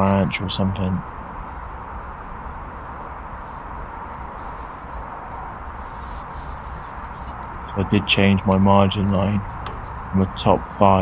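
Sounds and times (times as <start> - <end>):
outdoor background noise: 0.0 - 11.0
faint bird chirps: 1.3 - 11.0.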